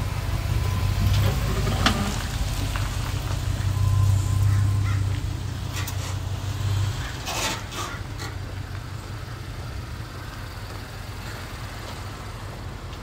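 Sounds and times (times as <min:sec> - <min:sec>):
outdoor background noise: 0:00.0 - 0:13.0
vehicle engine rumble: 0:00.0 - 0:13.0.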